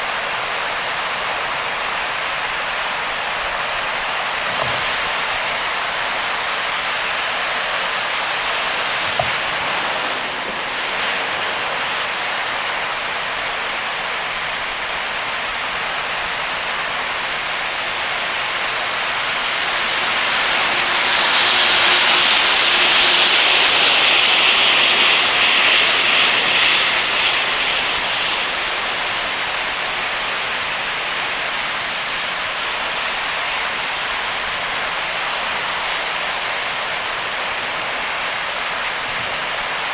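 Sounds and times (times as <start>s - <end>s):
tyres hissing on a flooded road: 0.0s - 39.9s.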